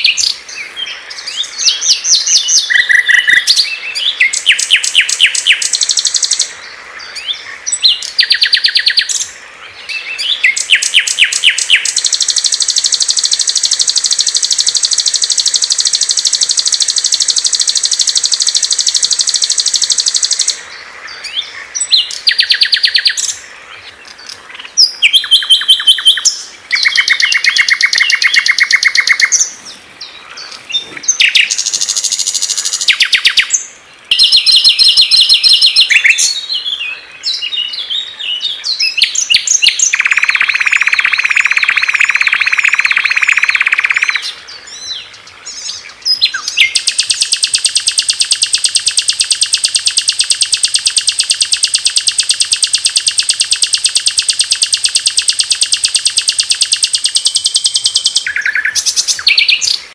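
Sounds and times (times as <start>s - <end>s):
songbirds trilling and chirping: 0.0s - 59.9s.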